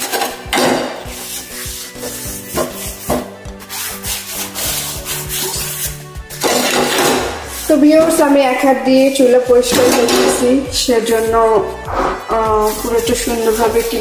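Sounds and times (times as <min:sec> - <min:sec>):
scrubber rubbing metal burner: 0:01.0 - 0:08.7, 0:09.6 - 0:14.0.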